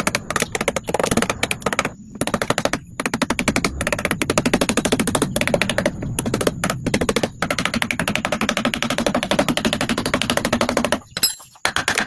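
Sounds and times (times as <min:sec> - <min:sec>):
rapid sharp taps: 0:00.0 - 0:12.0.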